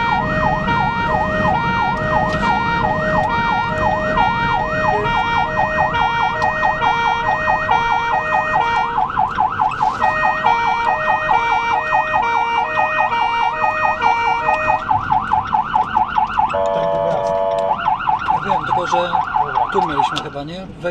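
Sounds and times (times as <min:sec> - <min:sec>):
two-tone siren note: 0:00.0 - 0:19.7
ambulance siren yelp: 0:00.0 - 0:20.4.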